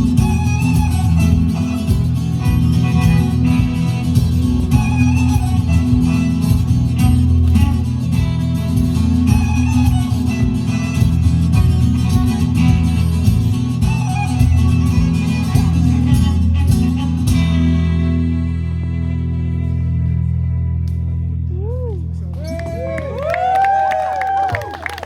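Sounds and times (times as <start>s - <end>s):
plucked guitar music: 0.0s - 22.2s.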